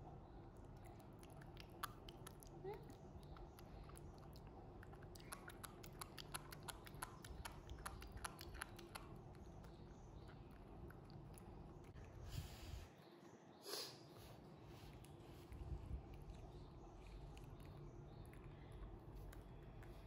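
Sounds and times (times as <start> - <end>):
monkey chewing and lip smacking: 0.5 - 12.2, 14.9 - 20.0.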